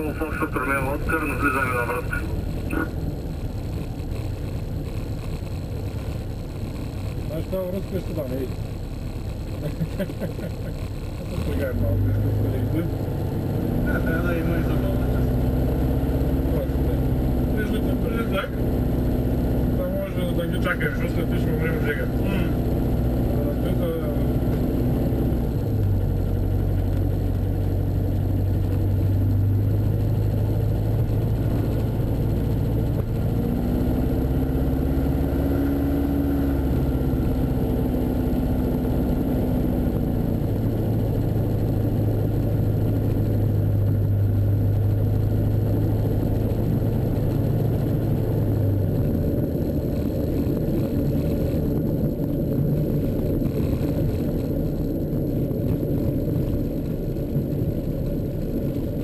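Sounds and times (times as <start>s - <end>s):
higher engine tone: 0.0s - 59.0s
light plane engine and propeller: 0.0s - 59.0s.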